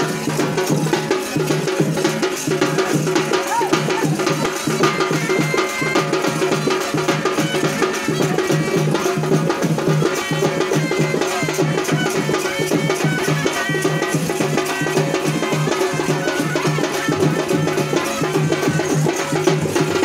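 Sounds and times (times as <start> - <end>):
fast continuous drumming: 0.0 - 20.0.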